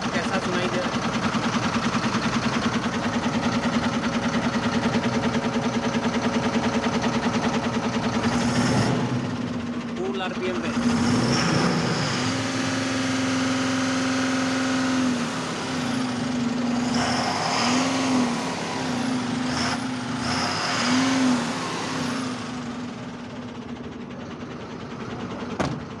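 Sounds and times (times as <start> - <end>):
diesel truck engine revving: 0.0 - 26.0.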